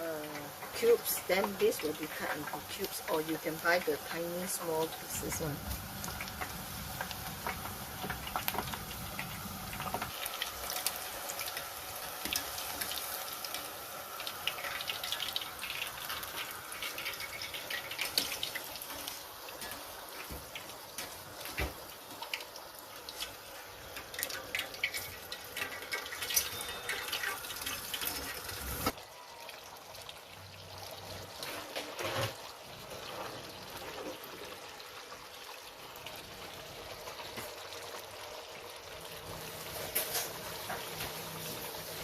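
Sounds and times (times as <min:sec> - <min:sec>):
curry bubbling in a pot: 0:00.2 - 0:42.0.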